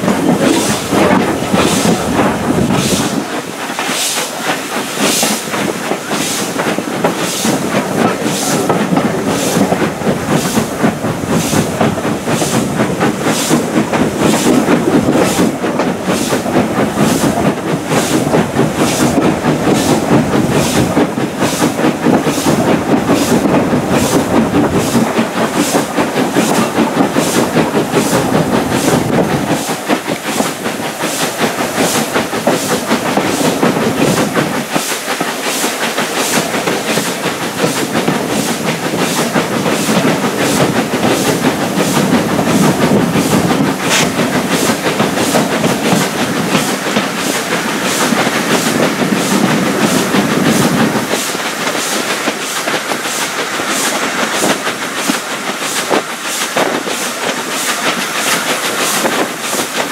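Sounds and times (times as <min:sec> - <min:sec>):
steam locomotive exhaust chuffs: 0:00.0 - 0:59.9
train wheels clattering on rails: 0:00.0 - 0:59.9.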